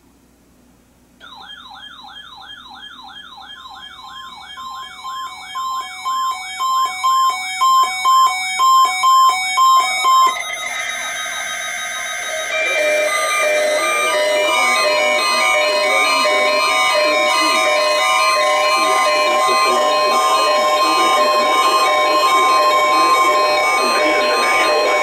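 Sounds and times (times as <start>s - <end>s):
electronic beeps: 1.2s - 25.0s
electronic siren wailing: 1.2s - 25.0s
steady alert tones: 1.2s - 25.0s.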